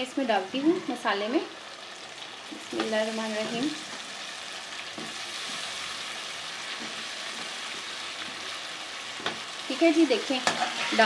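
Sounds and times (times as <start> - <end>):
spice paste sizzling in a pan: 0.0 - 11.0.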